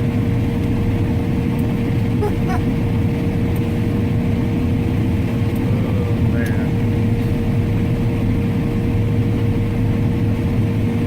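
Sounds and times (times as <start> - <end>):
constant machine whine: 0.0 - 11.0
low engine drone: 0.0 - 11.0.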